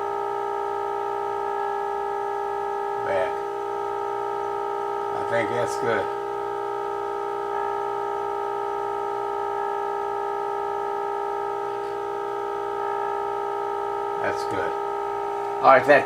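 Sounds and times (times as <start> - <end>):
steady test tone from radio speaker: 0.0 - 16.0.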